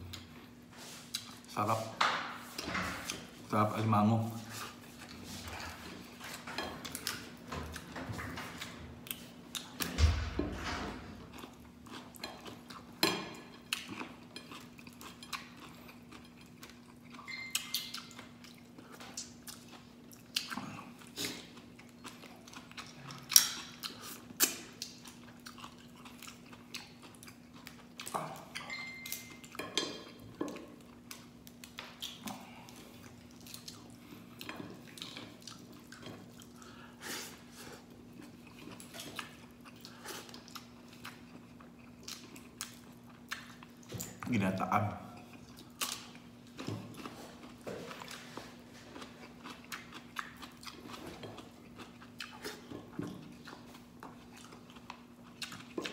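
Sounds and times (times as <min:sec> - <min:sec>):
chewing and mouth sounds: 0:00.0 - 0:01.7, 0:11.2 - 0:55.9.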